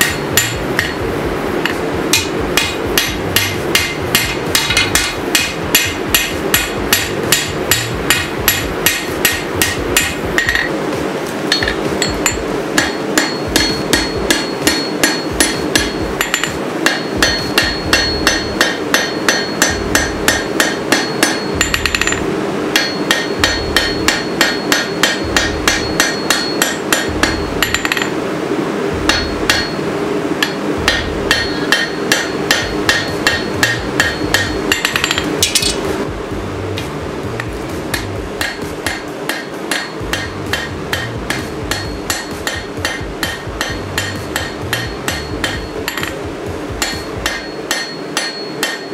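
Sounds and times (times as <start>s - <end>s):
hammer striking metal on anvil: 0.0s - 10.8s, 11.5s - 28.2s, 29.0s - 36.0s, 36.8s - 48.9s.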